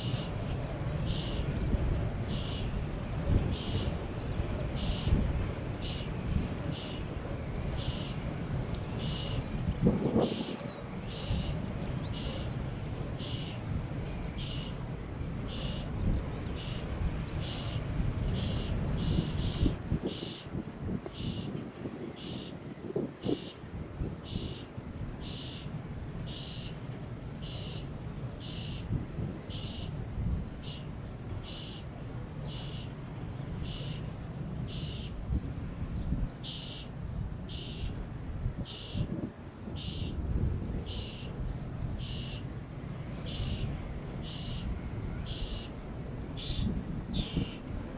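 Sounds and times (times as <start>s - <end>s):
wind buffeting microphone: 0.0s - 26.4s, 34.5s - 47.9s.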